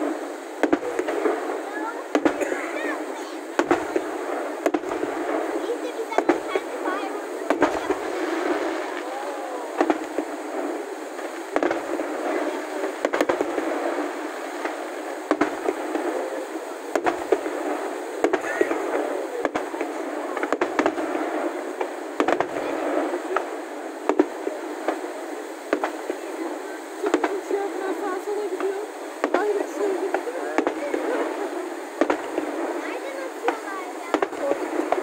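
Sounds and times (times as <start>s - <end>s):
crowd chatter: 0.0s - 35.0s
fireworks bursting: 0.0s - 35.0s.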